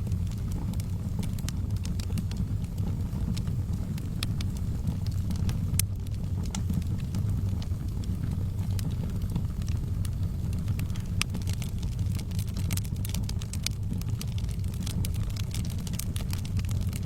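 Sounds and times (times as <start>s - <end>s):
fire pops and snaps: 0.0s - 17.0s
low rumble: 0.0s - 17.0s
wood fire crackling: 0.0s - 17.0s.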